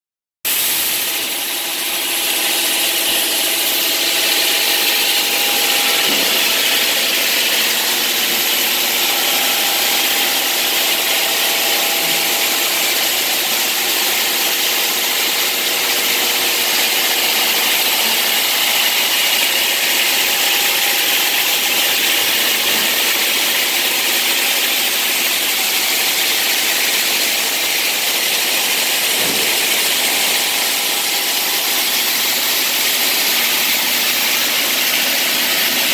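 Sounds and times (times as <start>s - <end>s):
stone saw blades grinding wet stone: 0.5s - 35.9s.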